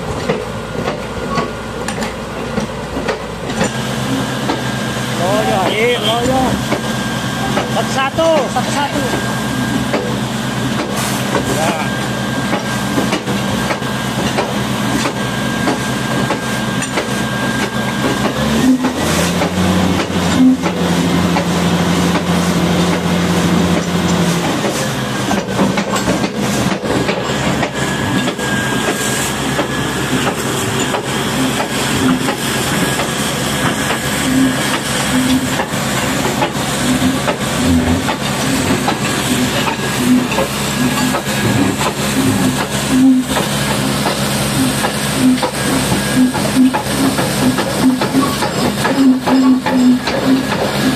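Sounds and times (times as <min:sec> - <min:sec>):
high-pressure water spray hissing: 0:03.6 - 0:50.9.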